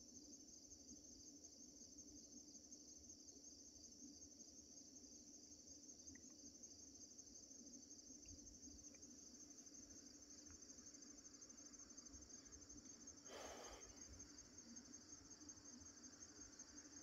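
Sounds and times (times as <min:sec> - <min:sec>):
field insects chirping: 0:00.0 - 0:17.0.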